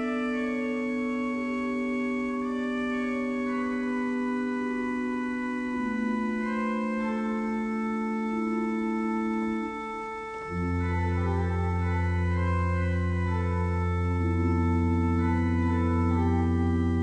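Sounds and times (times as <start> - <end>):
pipe organ chords: 0.0 - 17.0.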